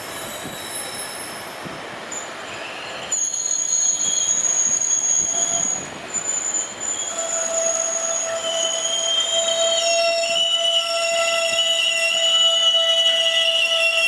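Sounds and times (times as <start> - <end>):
train rumble: 0.0 - 14.0
train wheels squealing: 0.0 - 14.0.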